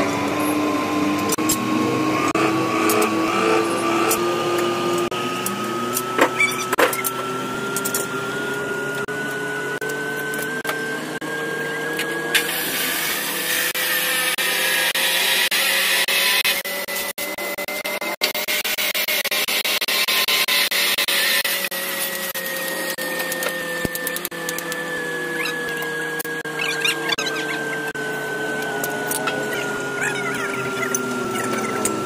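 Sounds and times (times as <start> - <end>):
engine-like hum rising in pitch: 0.0 - 19.1, 20.6 - 32.0.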